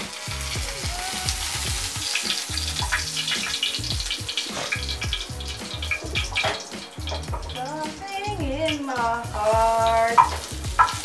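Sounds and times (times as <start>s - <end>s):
background music with beat: 0.0s - 11.0s
food sizzling in a pan: 0.0s - 11.0s.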